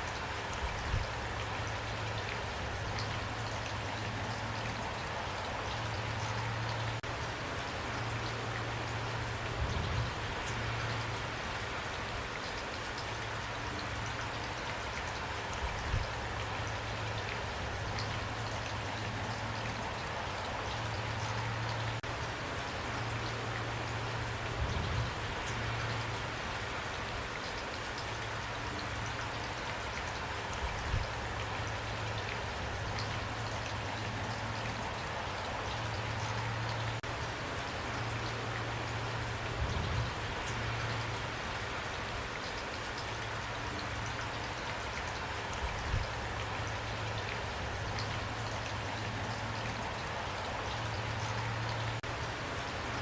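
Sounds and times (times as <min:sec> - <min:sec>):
raindrops pattering: 0:00.0 - 0:53.0
steady rain: 0:00.0 - 0:53.0.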